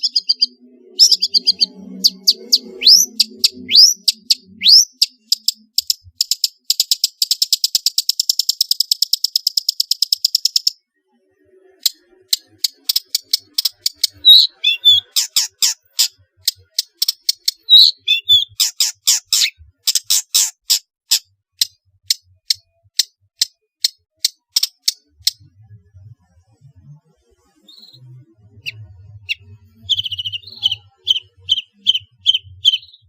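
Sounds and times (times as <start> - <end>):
bird singing trills and chatter: 0.0 - 10.8, 11.8 - 25.5, 27.6 - 33.0.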